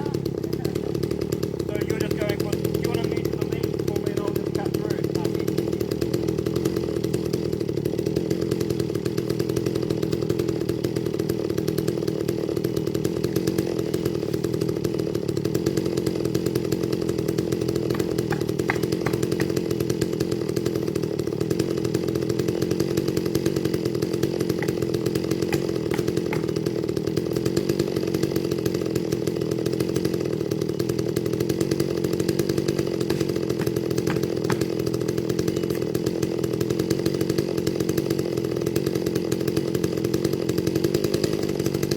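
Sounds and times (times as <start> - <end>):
chainsaw engine running: 0.0 - 41.9.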